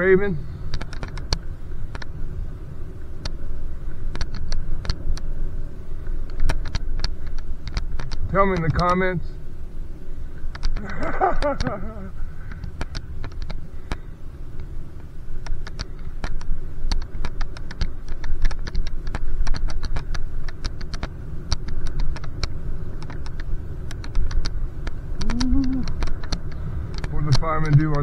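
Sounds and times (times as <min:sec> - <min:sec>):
bicycle rolling noise: 0:00.0 - 0:28.0
wind rumble: 0:00.0 - 0:28.0
sharp irregular clicks: 0:00.6 - 0:02.2, 0:03.1 - 0:05.4, 0:06.0 - 0:09.1, 0:10.4 - 0:28.0.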